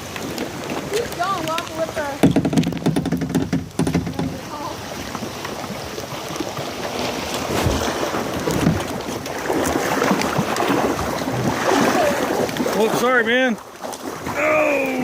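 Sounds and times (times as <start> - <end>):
paddle dipping and splashing: 0.0 - 15.0
water lapping at hull: 0.0 - 15.0.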